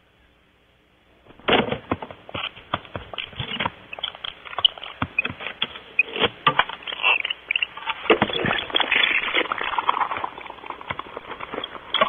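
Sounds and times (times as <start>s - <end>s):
scratching and crackling in nest box: 1.8s - 12.0s.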